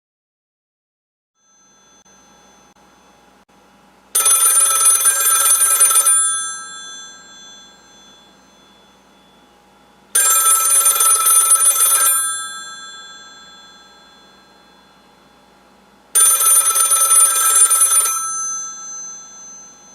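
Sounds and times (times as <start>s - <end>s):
telephone bells ringing: 1.4s - 2.8s, 4.2s - 19.9s.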